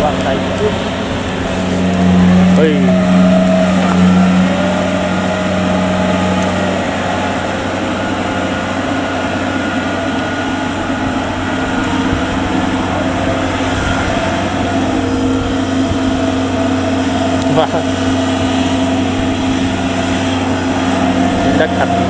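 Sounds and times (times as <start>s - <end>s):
diesel engine humming: 0.0s - 22.0s.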